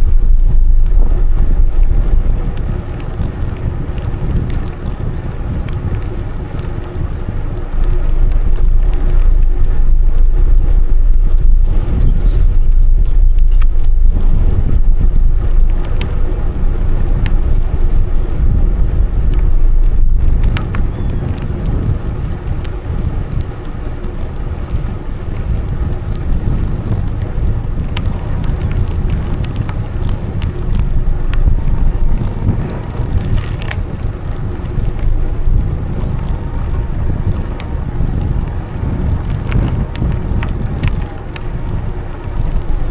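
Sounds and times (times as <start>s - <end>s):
bike clicks and rattles: 0.0s - 42.9s
tyre rumble: 0.0s - 42.9s
wind buffeting microphone: 0.0s - 42.9s.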